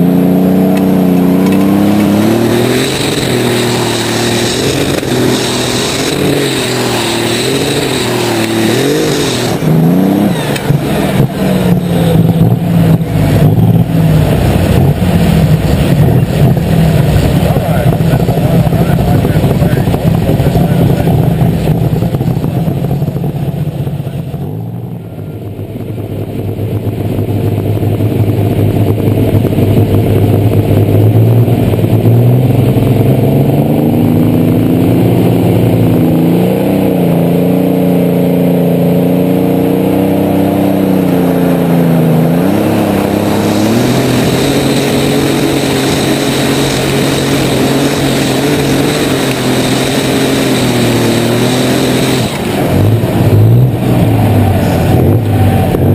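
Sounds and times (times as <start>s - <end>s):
tractor engine running hard: 0.0s - 55.9s.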